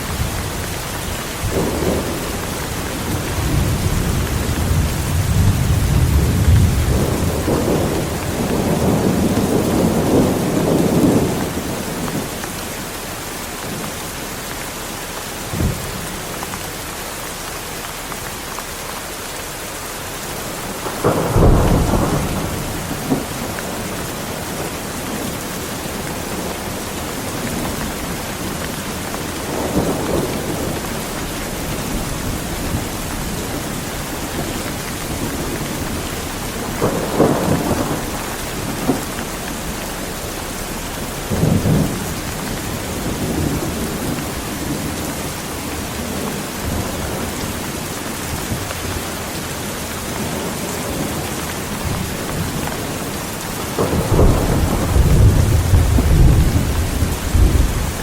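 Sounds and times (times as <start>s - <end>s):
thunder rumbling: 0.0s - 12.6s, 20.3s - 58.0s
heavy rain: 0.0s - 58.0s.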